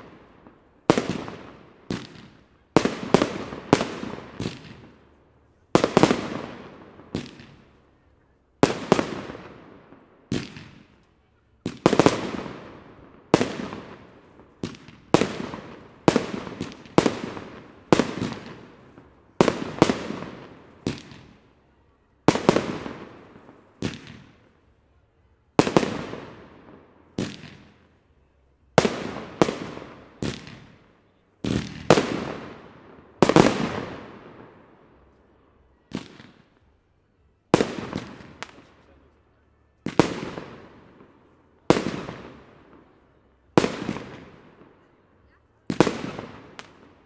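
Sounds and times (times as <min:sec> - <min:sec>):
fireworks bangs echoing: 0:00.0 - 0:05.1, 0:05.7 - 0:08.0, 0:08.6 - 0:11.0, 0:11.6 - 0:21.6, 0:22.2 - 0:24.6, 0:25.6 - 0:28.0, 0:28.7 - 0:35.1, 0:35.8 - 0:36.7, 0:37.4 - 0:39.2, 0:39.8 - 0:47.0.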